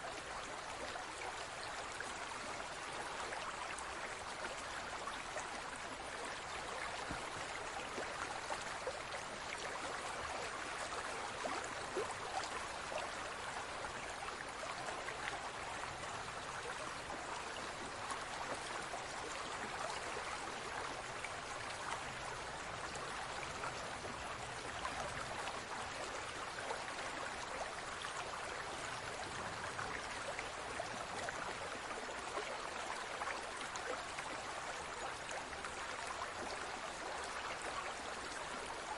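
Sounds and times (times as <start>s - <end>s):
aquarium water trickling and bubbling: 0.0s - 38.9s.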